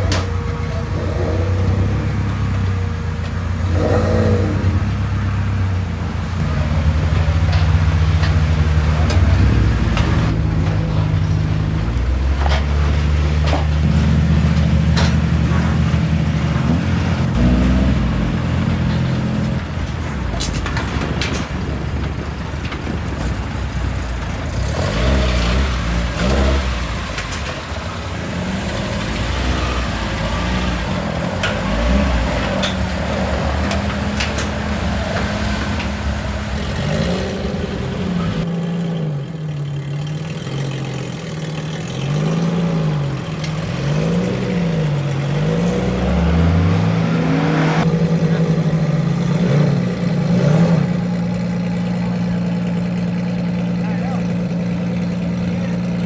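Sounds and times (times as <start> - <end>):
car engine revving and idling: 0.0 - 56.0
car engines running: 0.0 - 56.0.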